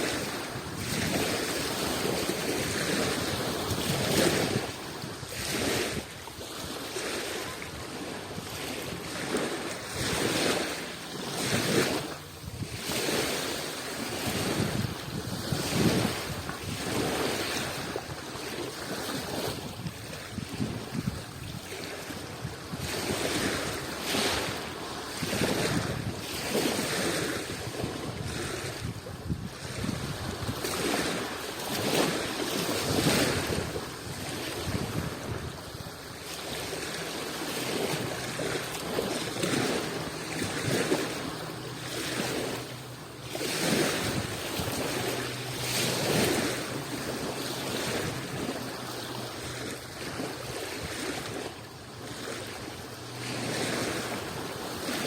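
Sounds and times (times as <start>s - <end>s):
sea waves washing on shore: 0.0s - 55.0s.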